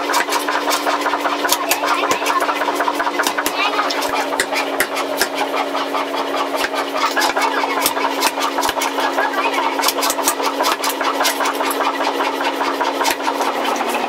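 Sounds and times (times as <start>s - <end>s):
motor hum: 0.0s - 14.0s
power hammer pounding steel: 0.0s - 14.0s.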